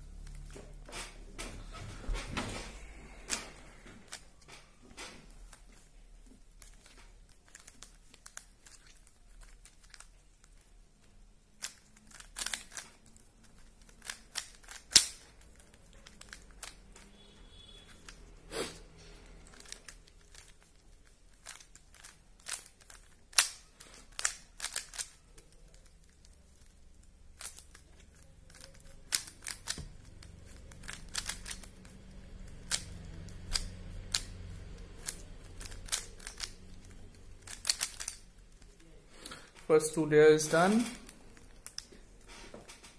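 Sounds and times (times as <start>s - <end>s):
puzzle cube plastic clicks: 3.2s - 17.2s, 17.9s - 38.8s, 40.4s - 42.2s.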